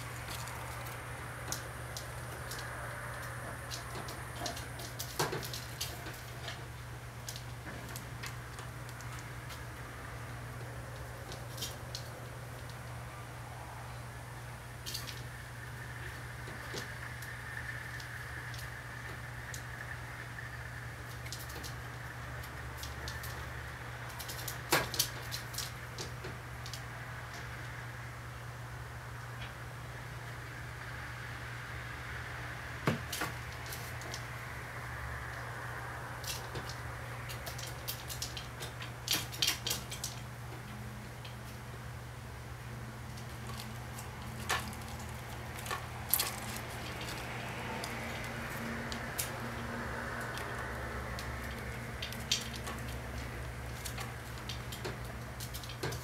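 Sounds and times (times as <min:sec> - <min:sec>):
bamboo blind slats rattling: 0:00.0 - 0:13.6, 0:14.4 - 0:30.5, 0:32.7 - 0:56.0
steady low hum: 0:00.0 - 0:56.0.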